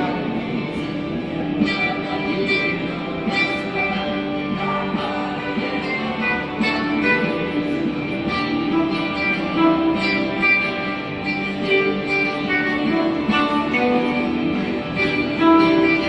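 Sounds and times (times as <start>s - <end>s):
backing track: 0.0s - 16.0s
ukulele melody: 0.0s - 16.0s.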